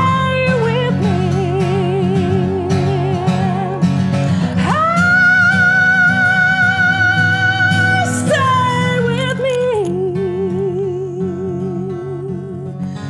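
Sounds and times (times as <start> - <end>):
guitar: 0.0 - 13.0
woman singing: 0.0 - 13.0.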